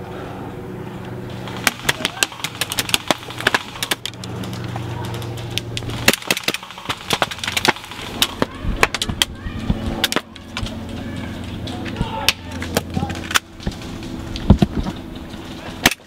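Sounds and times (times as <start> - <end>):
low steady hum: 0.0 - 16.0
pellets cracking against wood: 1.0 - 16.0.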